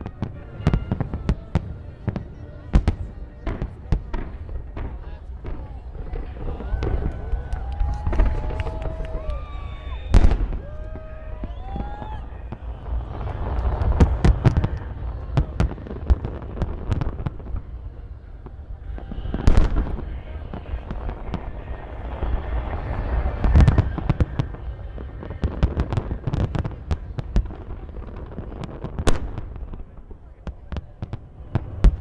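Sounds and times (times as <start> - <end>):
fireworks bursting with crackling: 0.0 - 32.0
heavy firework booms: 0.0 - 32.0.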